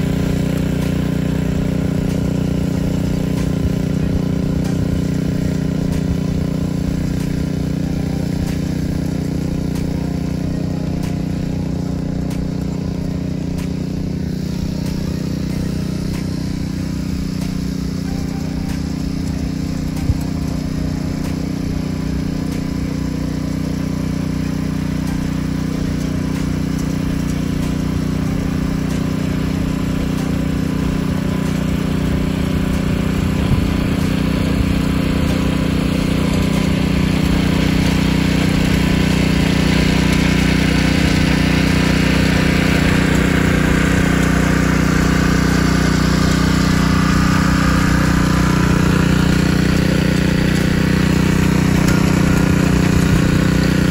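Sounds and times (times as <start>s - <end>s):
garden tiller engine running: 0.0s - 53.9s
tines churning soil: 0.0s - 53.9s.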